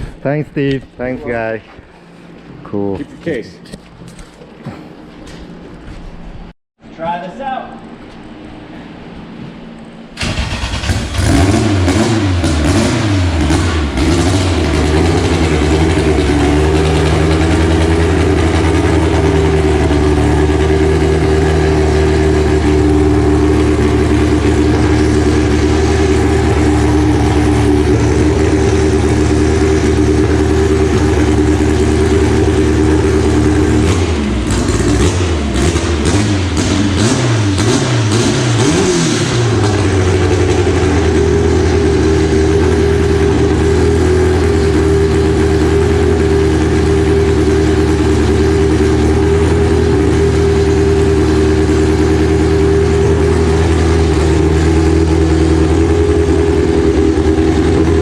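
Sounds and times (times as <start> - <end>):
car engine revving: 10.2 - 58.0.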